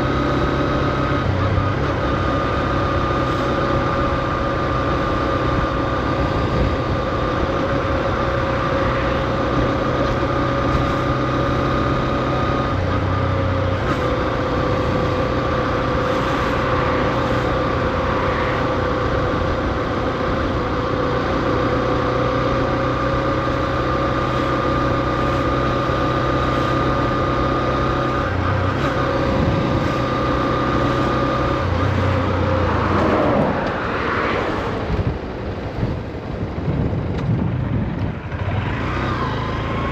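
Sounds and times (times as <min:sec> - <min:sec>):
motorcycle engine running at low revs: 0:00.0 - 0:39.9
steady whine: 0:00.0 - 0:39.9.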